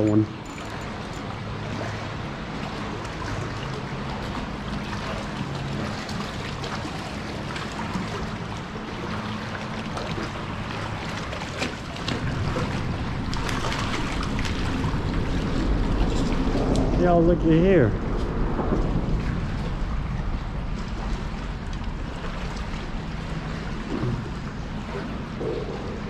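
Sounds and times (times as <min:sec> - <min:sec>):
steady low hum: 0:00.0 - 0:26.0
water splashing and lapping: 0:00.0 - 0:26.0.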